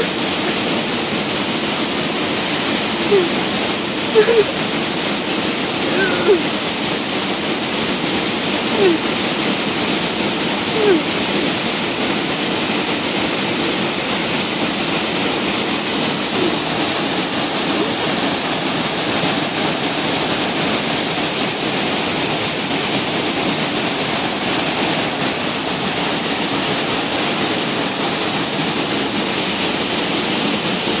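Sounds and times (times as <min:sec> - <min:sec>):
waterfall rushing over rocks: 0:00.0 - 0:31.0.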